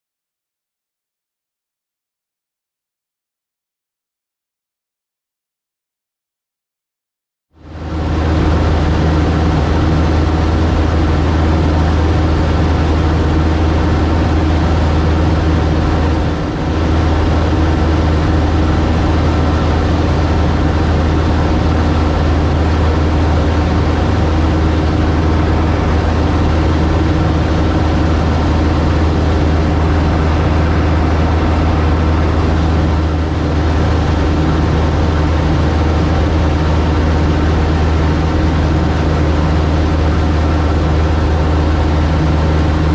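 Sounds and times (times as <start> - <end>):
light aircraft engine droning: 7.6 - 42.9.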